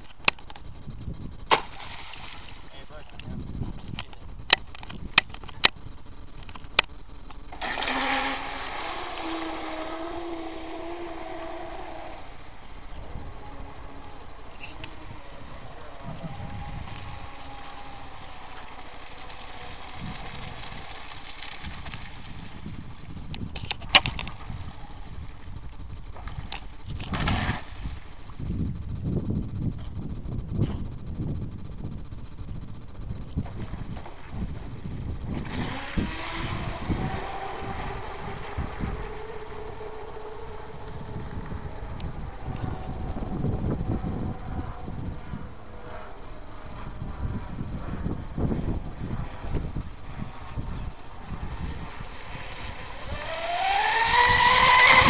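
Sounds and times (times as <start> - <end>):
electric motor whine: 0.0 - 55.0
low wind buffeting on microphone: 0.0 - 55.0.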